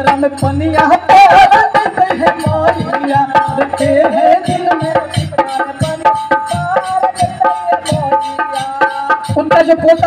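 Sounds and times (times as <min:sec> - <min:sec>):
tabla hand-drum beat: 0:00.0 - 0:10.0.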